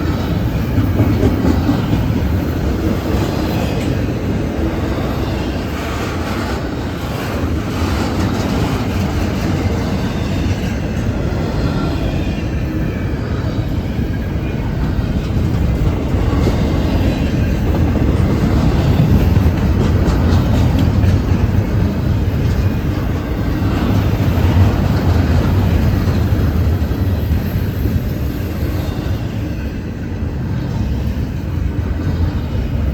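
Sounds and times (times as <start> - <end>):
freight train wheels rumbling: 0.0 - 32.9.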